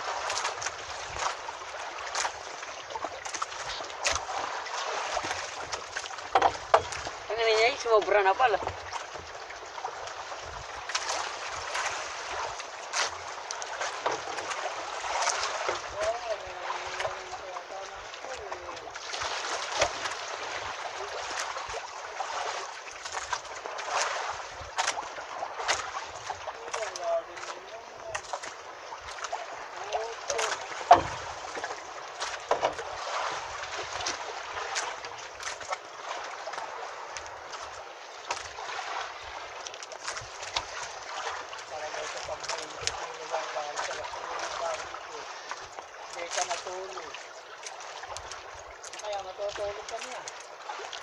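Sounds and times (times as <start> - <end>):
splashes and knocks: 0.0 - 51.0
water lapping against boat: 0.0 - 51.0.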